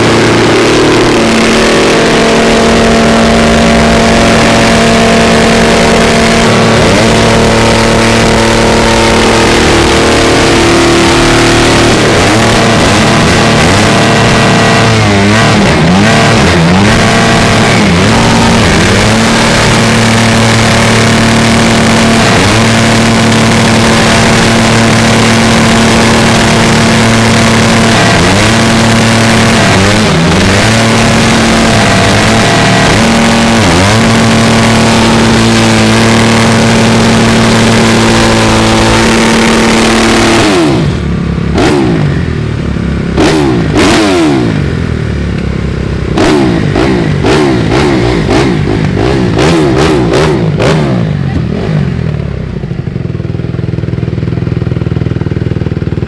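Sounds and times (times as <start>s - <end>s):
dirt bike engine revving: 0.0s - 53.1s.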